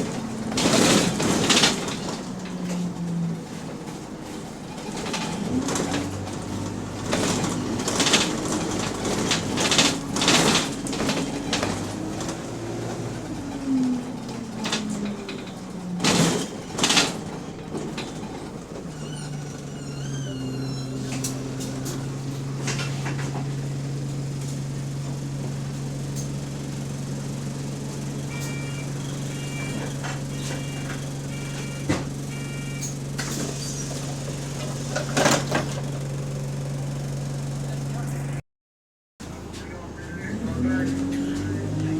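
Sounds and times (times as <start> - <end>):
bus engine: 0.0 - 38.4, 39.2 - 41.9.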